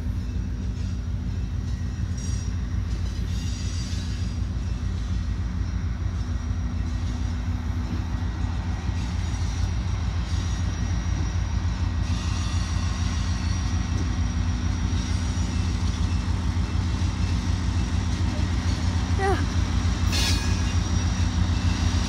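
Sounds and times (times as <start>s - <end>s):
locomotive engine rumbling: 0.0s - 22.0s.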